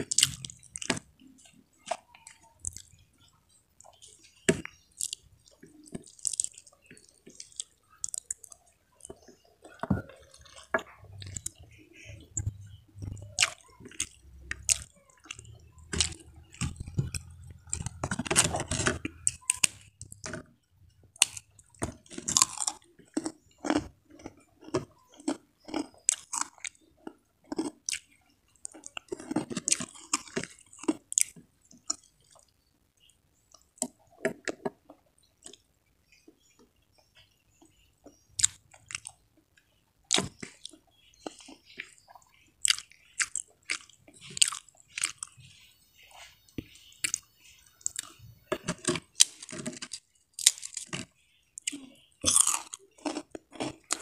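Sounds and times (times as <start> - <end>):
chewing with wet clicks and smacks: 0.0 - 54.0.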